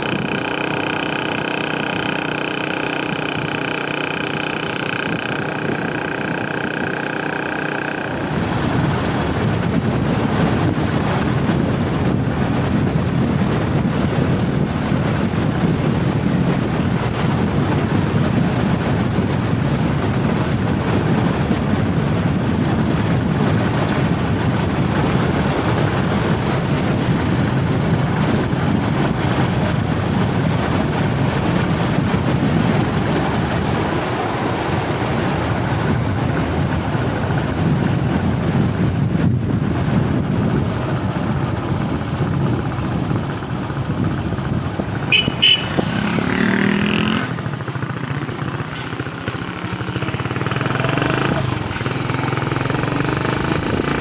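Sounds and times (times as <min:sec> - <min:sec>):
vehicle travel rumble: 0:00.0 - 0:54.0
wind buffeting microphone: 0:00.0 - 0:54.0.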